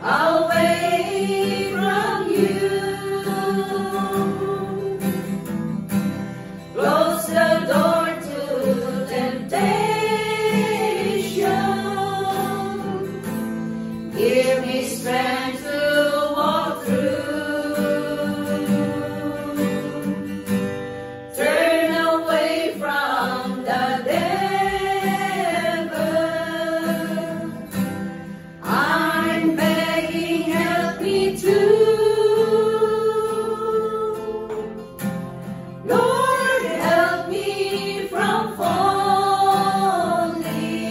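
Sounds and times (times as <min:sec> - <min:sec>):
women singing together: 0:00.0 - 0:05.4, 0:06.7 - 0:13.4, 0:14.1 - 0:20.4, 0:21.3 - 0:27.9, 0:28.6 - 0:34.8, 0:35.8 - 0:40.9
strummed acoustic guitar: 0:00.0 - 0:40.9.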